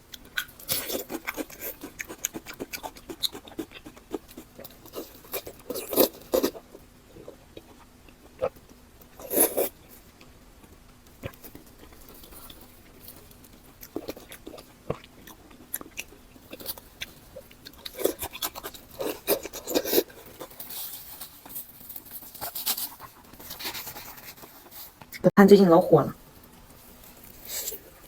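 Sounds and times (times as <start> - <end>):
person chewing food: 0.0 - 25.3, 26.4 - 28.0.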